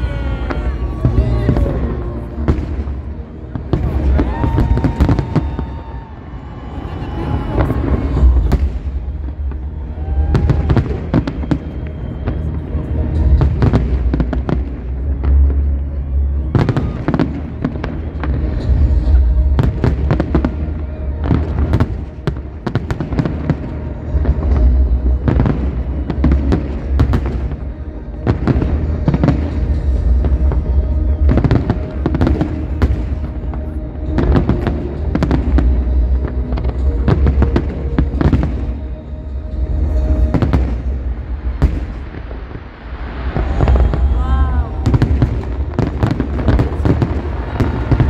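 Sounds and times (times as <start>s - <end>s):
deep rumble: 0.0s - 48.0s
fireworks bangs and crackles: 0.0s - 48.0s
music playing: 0.0s - 48.0s.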